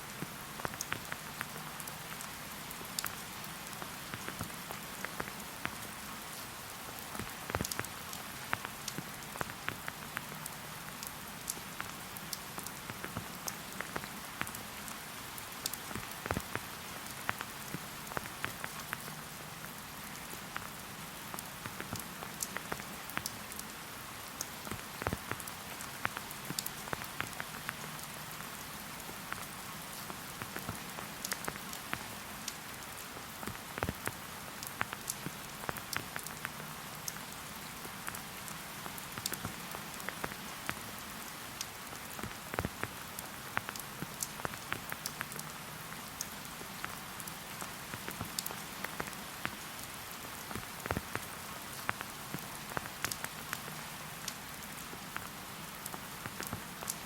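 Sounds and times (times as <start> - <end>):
rain falling in a forest: 0.0 - 57.0
raindrops pattering and ticking: 0.0 - 57.0.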